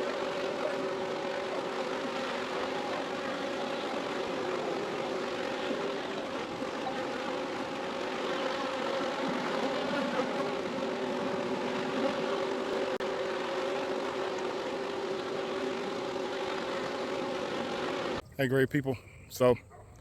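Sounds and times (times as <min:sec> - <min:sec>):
bee swarm buzzing: 0:00.0 - 0:18.2.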